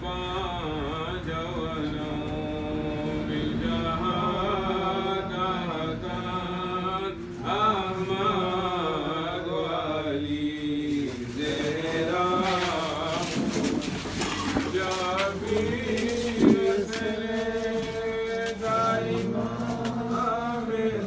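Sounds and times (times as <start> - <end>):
man chanting unaccompanied: 0.0 - 21.0.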